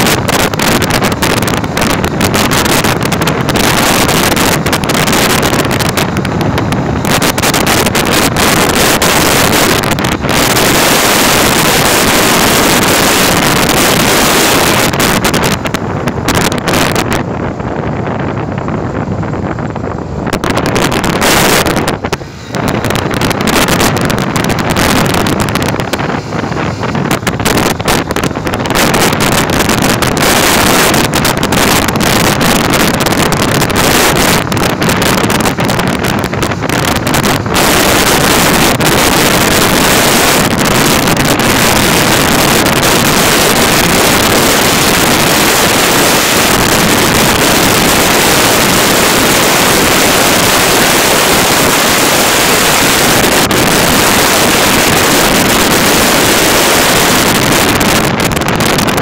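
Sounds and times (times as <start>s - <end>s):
motorcycle running: 0.0s - 59.0s
wind rushing over microphone: 0.0s - 59.0s.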